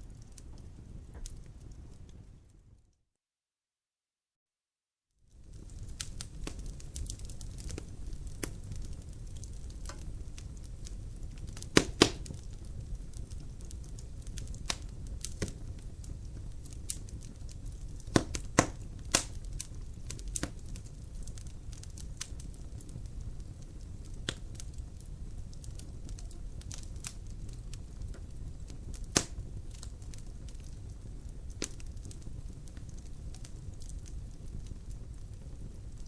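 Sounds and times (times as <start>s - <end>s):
fire popping and snapping: 0.0s - 2.6s, 5.3s - 36.0s
low rumble of flames: 0.0s - 2.9s, 5.3s - 36.0s.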